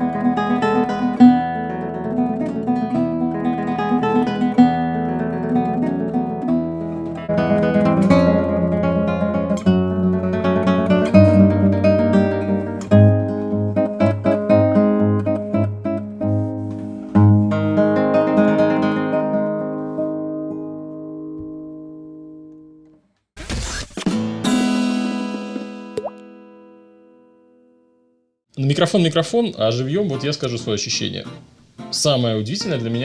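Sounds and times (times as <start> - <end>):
classical guitar playing: 0.0 - 23.0, 24.1 - 27.9, 29.6 - 33.0.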